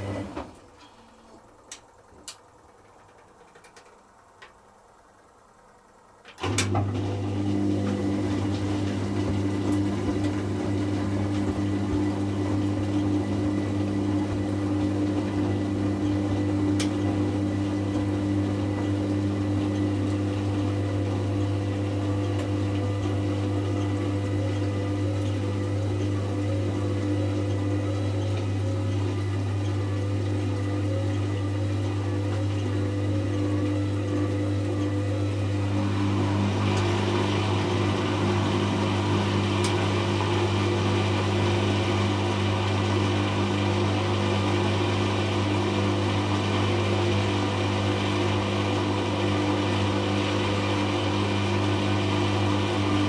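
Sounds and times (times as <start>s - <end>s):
washing machine spinning hum: 0.0s - 53.0s.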